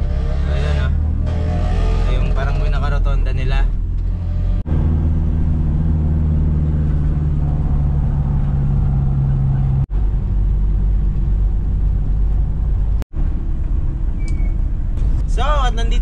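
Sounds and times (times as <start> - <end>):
road rumble: 0.0 - 16.0
van engine drone: 0.0 - 16.0.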